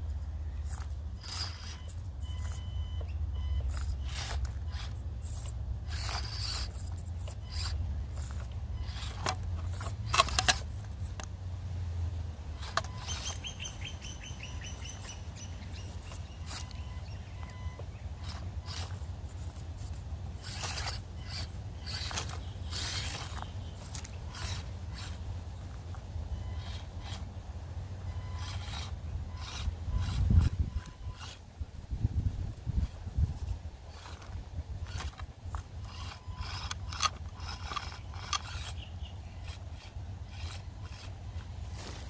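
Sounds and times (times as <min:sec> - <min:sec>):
small electric motor whirring: 0:00.0 - 0:11.3, 0:12.5 - 0:27.4, 0:28.0 - 0:42.0
tyres scraping on stone: 0:00.1 - 0:11.3, 0:12.5 - 0:27.3, 0:28.1 - 0:31.5, 0:32.5 - 0:42.0.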